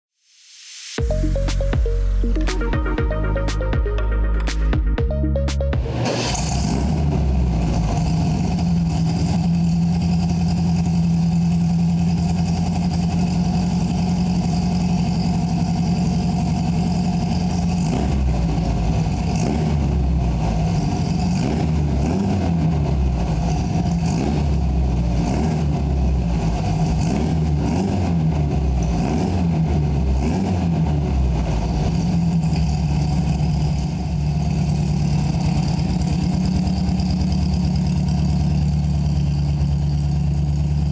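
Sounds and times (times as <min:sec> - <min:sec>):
car engine idling and revving: 0:01.0 - 0:40.9.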